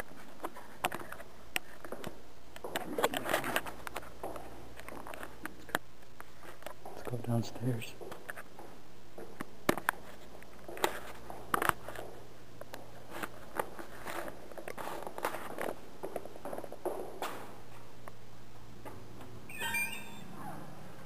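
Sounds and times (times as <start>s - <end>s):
footsteps going down stairs: 0.0s - 19.4s.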